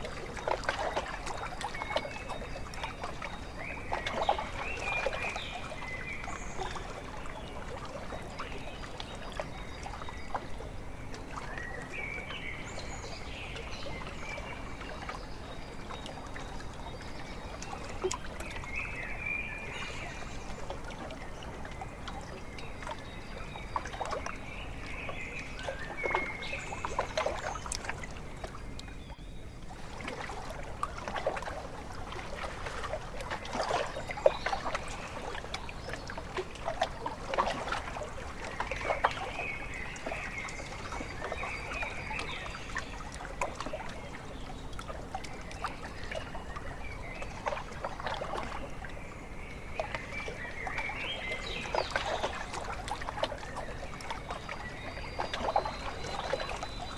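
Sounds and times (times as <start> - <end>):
waves lapping against shore: 0.0 - 56.9.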